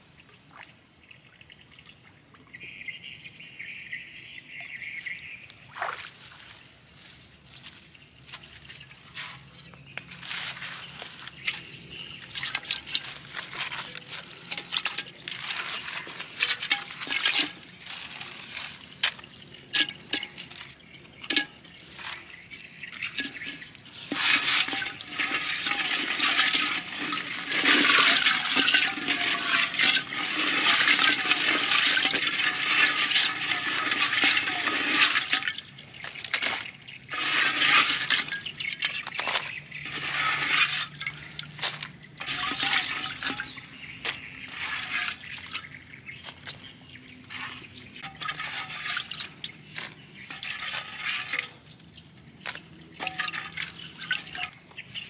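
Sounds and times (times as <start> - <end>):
water splashing in a pot: 5.7 - 6.5, 8.2 - 55.0.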